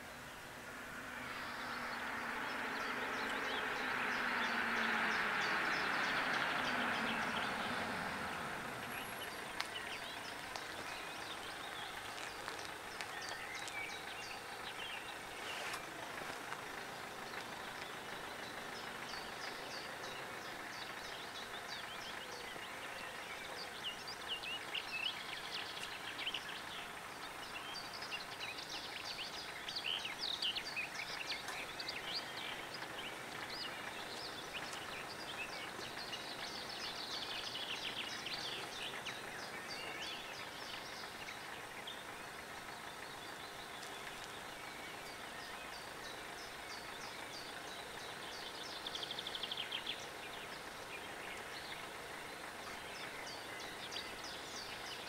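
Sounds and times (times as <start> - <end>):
birds chirping: 0.0 - 55.0
train rumble: 0.0 - 55.0.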